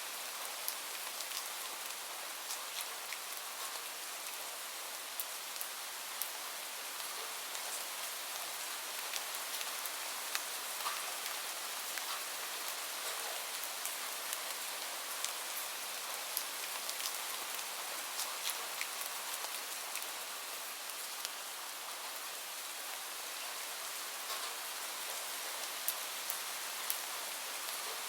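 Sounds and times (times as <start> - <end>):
rain falling: 0.0 - 28.0
raindrops ticking on surface: 0.4 - 4.4, 5.0 - 22.1, 24.2 - 28.0.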